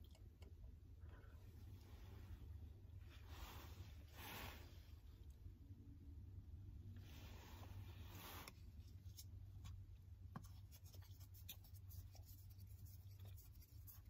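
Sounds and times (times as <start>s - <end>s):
low steady hum: 0.0s - 14.0s
soft rustle: 1.0s - 5.5s, 6.8s - 14.0s.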